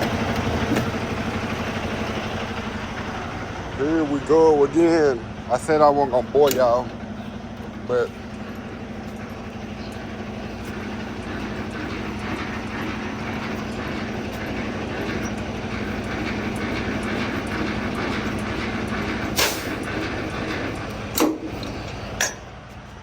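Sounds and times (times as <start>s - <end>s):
road noise: 0.0s - 23.0s
truck engine hum: 0.0s - 23.0s.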